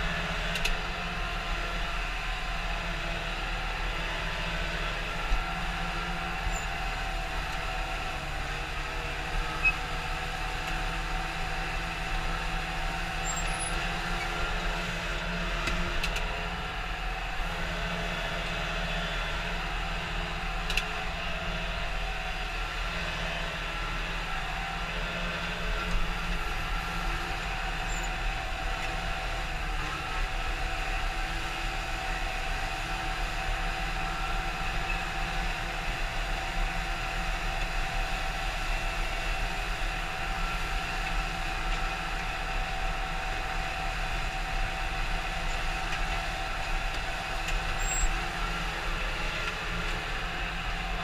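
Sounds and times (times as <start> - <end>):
tractor engine low drone: 0.0 - 51.0.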